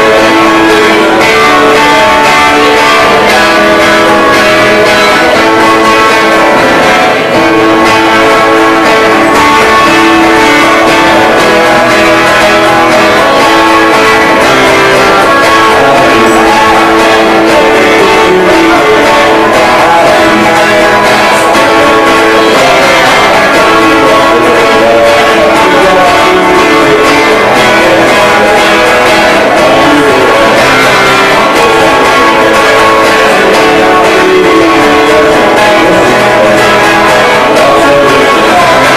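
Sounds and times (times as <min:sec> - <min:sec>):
guitar: 0:00.0 - 0:38.9
live band playing: 0:00.0 - 0:38.9.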